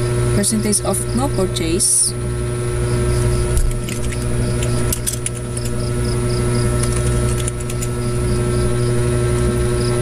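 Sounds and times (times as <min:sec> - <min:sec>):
electrical hum and hiss: 0:00.0 - 0:10.0.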